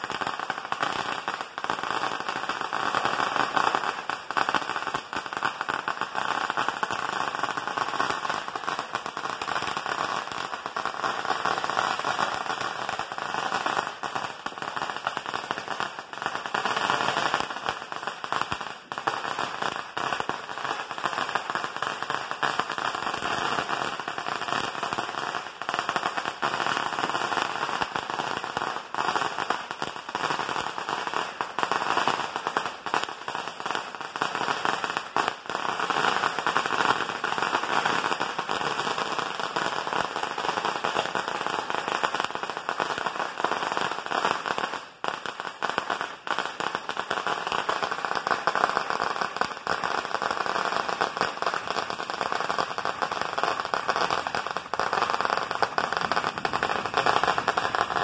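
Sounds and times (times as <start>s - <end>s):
firecrackers going off: 0.0s - 58.0s.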